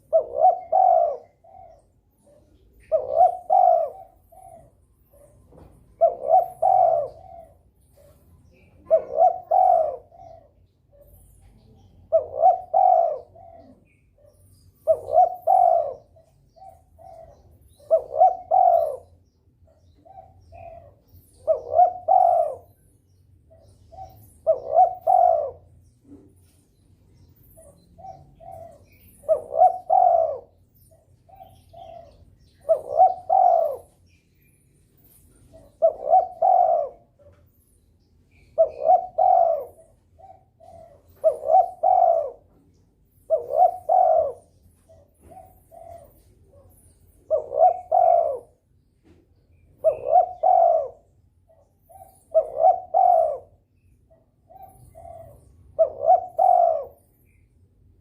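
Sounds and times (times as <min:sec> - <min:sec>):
dove cooing: 0:00.0 - 0:26.6, 0:27.2 - 0:58.0.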